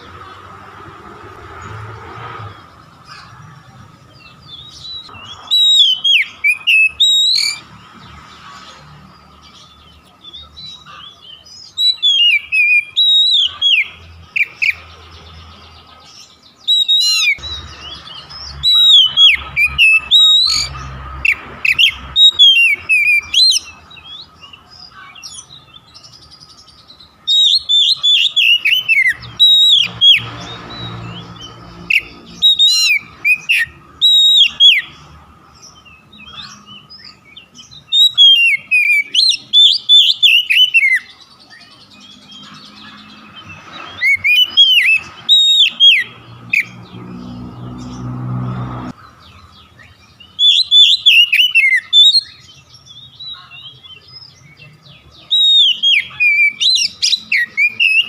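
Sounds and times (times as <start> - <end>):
bird singing whistled notes: 4.0 - 7.7, 9.2 - 48.1, 49.2 - 58.0.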